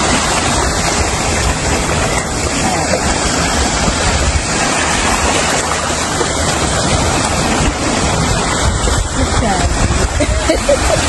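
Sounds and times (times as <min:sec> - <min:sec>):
sea waves rushing: 0:00.0 - 0:11.0
wind buffeting microphone: 0:00.0 - 0:11.0.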